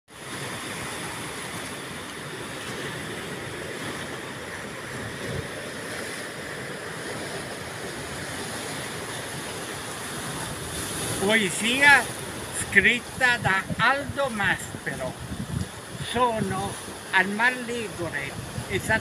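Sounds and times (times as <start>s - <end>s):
surf breaking over rocks: 0.1s - 19.0s.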